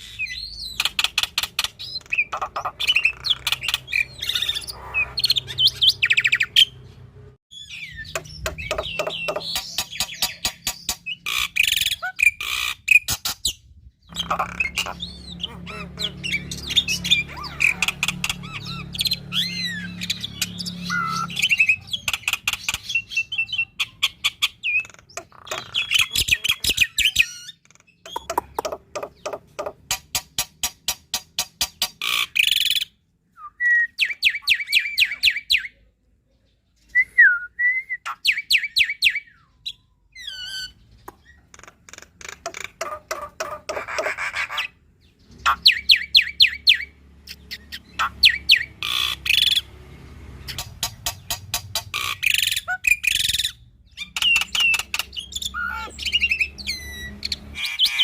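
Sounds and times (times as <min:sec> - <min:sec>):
starling singing: 0:00.0 - 0:33.0, 0:33.6 - 0:35.8, 0:38.0 - 0:58.0.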